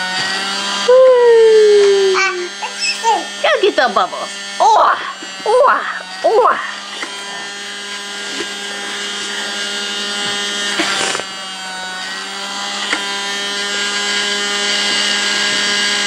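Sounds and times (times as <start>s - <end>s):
bubble machine motor whine: 0.0s - 16.0s.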